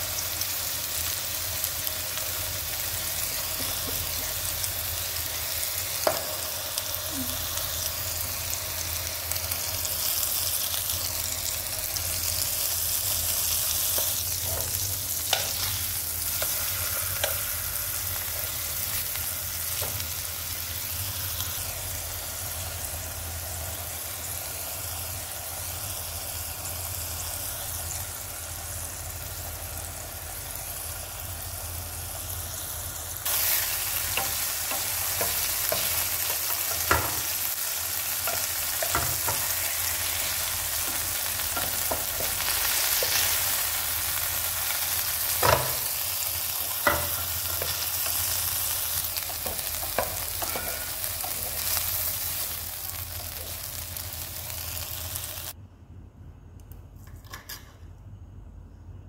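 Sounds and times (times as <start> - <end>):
fish sizzling in a frying pan: 0.0 - 55.6.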